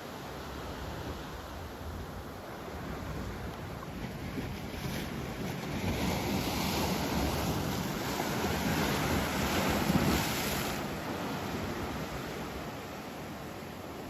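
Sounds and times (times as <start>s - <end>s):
ocean waves breaking: 2.4s - 14.0s.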